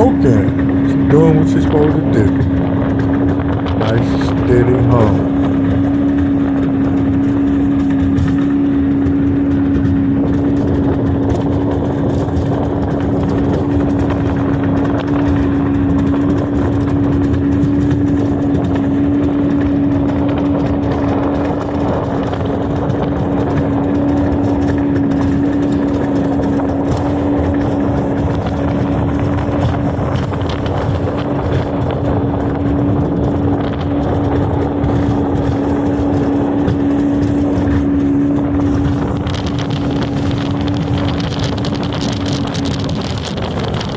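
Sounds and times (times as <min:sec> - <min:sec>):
outboard motor humming: 0:00.0 - 0:43.9.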